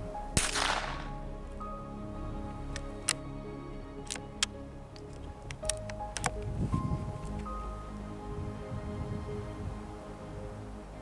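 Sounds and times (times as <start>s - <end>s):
background music with low bass: 0.0s - 11.0s.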